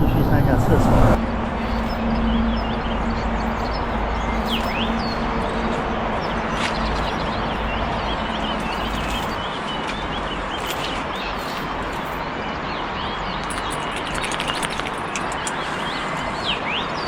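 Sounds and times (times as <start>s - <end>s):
small birds chirping: 1.1s - 17.0s.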